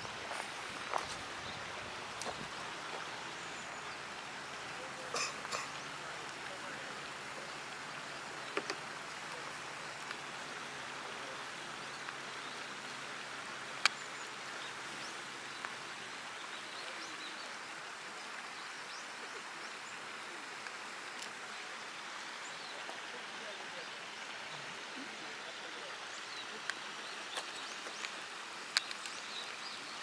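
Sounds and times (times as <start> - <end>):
fountain splashing into pond: 0.0 - 30.0.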